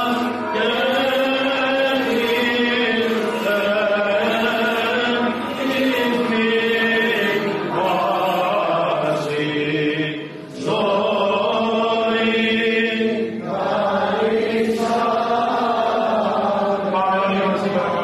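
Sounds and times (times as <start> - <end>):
man singing chant: 0.0 - 13.4, 14.2 - 18.0.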